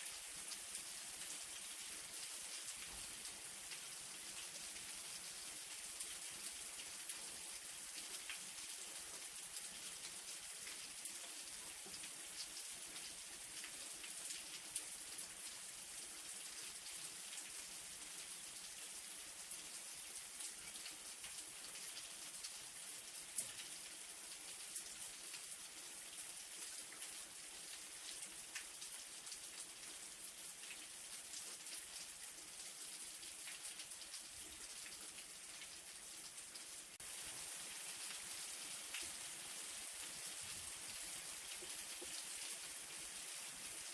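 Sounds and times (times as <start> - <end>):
light rain falling: 0.0 - 43.9.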